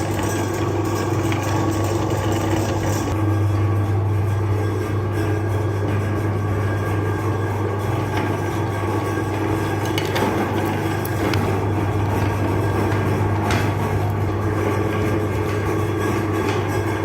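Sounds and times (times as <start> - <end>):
meat grinder motor humming: 0.0 - 17.0.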